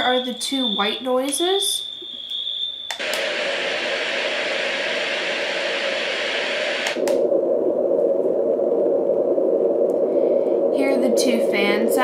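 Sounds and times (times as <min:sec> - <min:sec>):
white noise machine hiss: 0:00.0 - 0:12.0.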